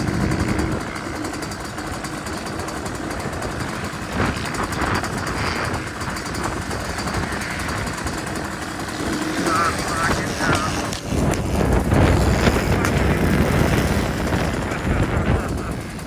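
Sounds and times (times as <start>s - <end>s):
pit bike engines running: 0.0s - 16.0s.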